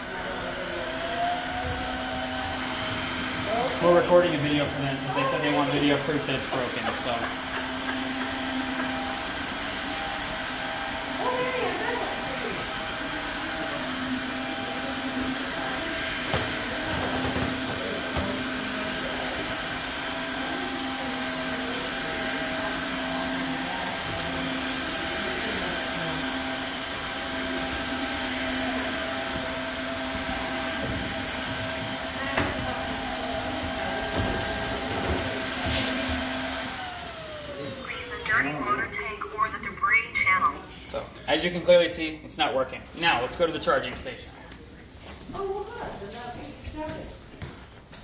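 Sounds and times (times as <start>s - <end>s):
floor cleaner motor humming: 0.0s - 48.0s.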